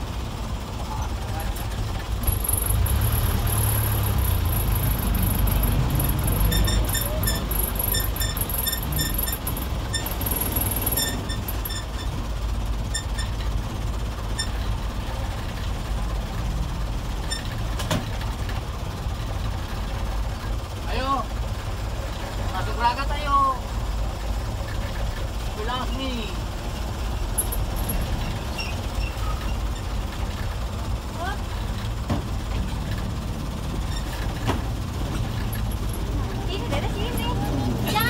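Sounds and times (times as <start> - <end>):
diesel engine rumble: 0.0 - 38.0.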